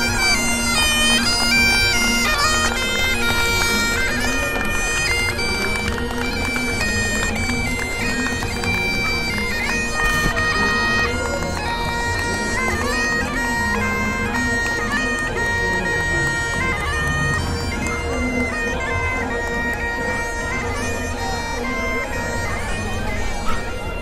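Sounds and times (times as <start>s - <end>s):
bagpipes playing a marching tune: 0.0s - 24.0s.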